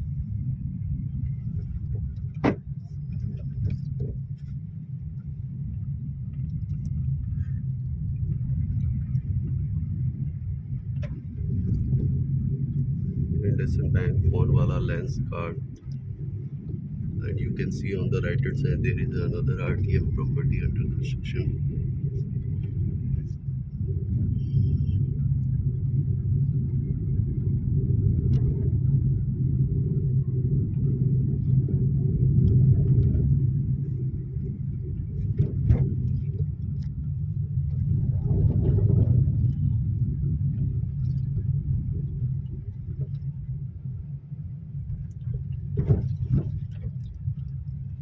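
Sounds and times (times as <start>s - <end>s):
car engine and tyres rumble: 0.0s - 48.0s.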